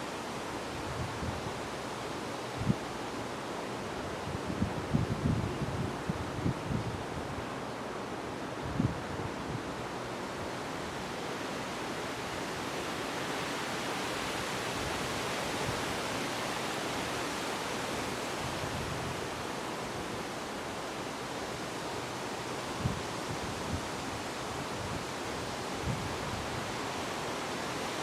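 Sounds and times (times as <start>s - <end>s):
steady wind: 0.0s - 28.0s.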